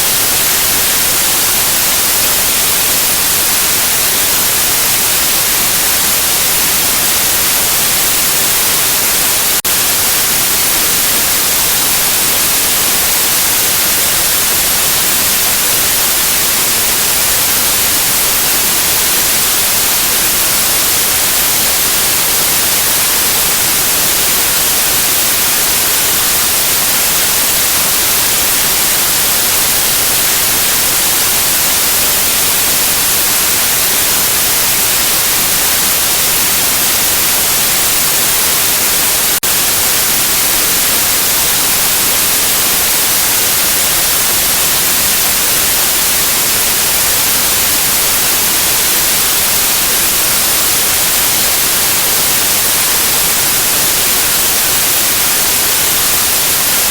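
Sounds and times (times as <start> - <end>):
white noise hiss: 0.0 - 56.9.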